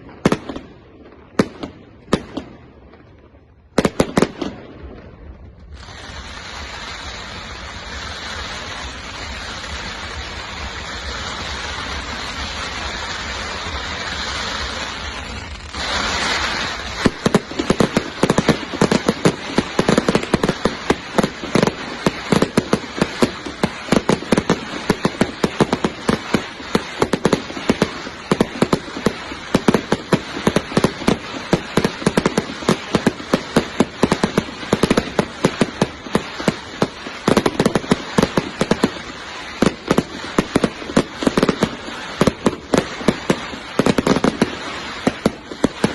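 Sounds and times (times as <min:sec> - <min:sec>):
fireworks hiss and crackle: 0:00.0 - 0:45.9
fireworks sharp bangs: 0:00.0 - 0:45.9.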